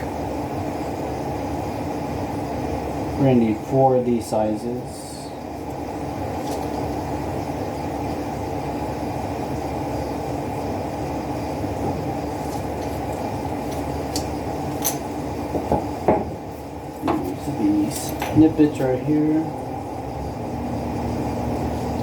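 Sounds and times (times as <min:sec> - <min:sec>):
machinery low rumble: 0:00.0 - 0:22.0.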